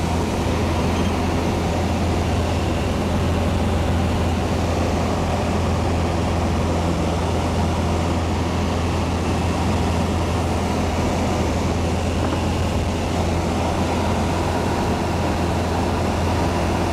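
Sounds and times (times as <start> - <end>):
aircraft engine and propeller drone: 0.0 - 16.9.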